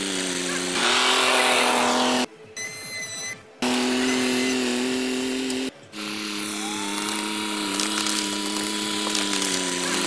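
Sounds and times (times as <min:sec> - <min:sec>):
small electric motor whining: 0:00.0 - 0:02.3, 0:03.6 - 0:10.0.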